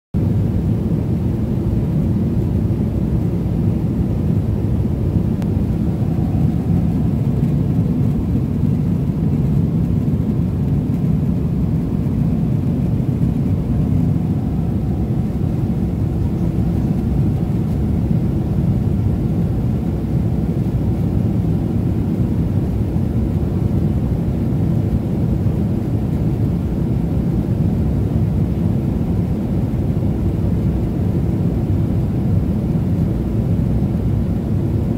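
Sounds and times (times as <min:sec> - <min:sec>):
airliner cabin roar: 0:00.2 - 0:34.9.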